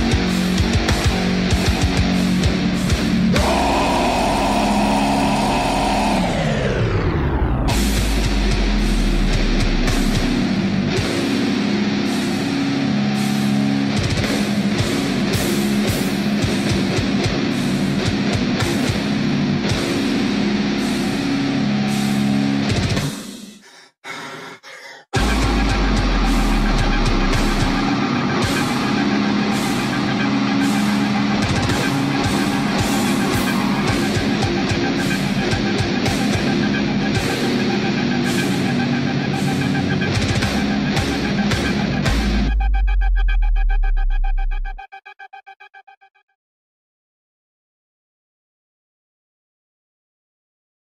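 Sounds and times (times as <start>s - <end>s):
electric guitar chords: 0.0s - 23.1s, 25.2s - 43.2s
heavy metal music: 0.0s - 23.8s, 25.1s - 44.9s.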